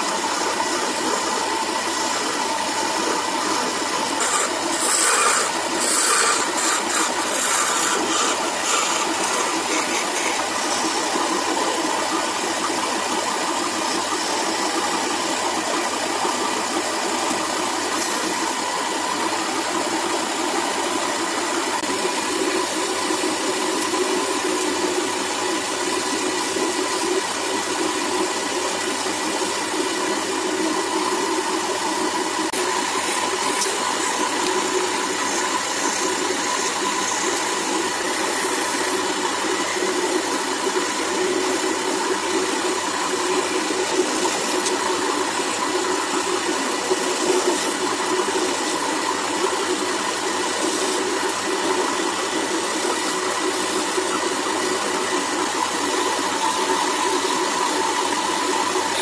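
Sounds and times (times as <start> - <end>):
turning tool cutting wood: 0.0 - 59.0
wood lathe motor whine: 0.0 - 59.0.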